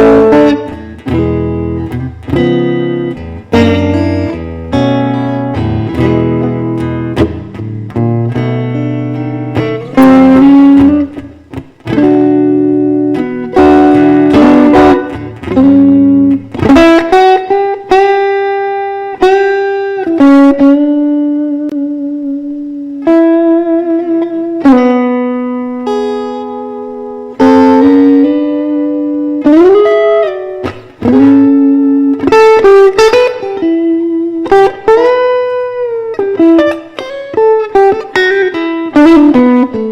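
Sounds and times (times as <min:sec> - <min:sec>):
blues guitar playing: 0:00.0 - 0:39.9.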